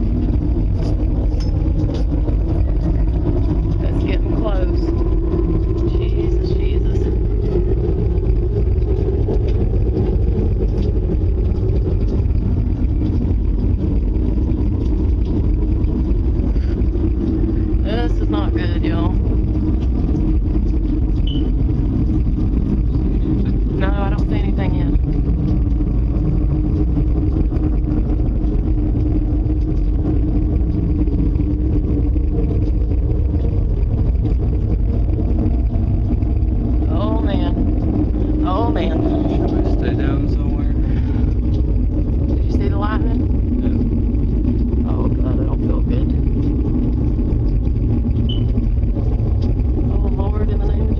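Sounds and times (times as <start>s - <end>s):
deep rumble: 0.0s - 50.9s
low hum: 0.0s - 50.9s
storm wind roaring: 0.0s - 50.9s.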